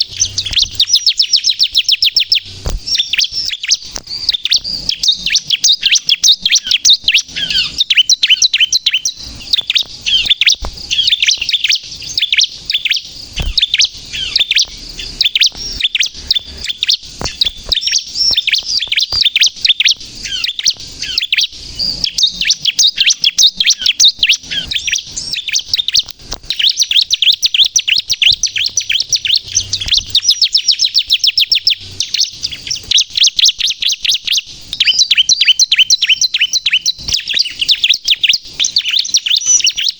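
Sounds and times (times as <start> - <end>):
bird singing high chirps and trills: 0.0 - 39.9.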